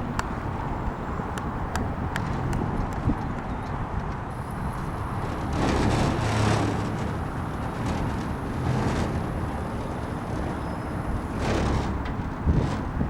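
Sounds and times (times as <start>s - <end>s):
car engine droning with surges: 0.0s - 13.0s.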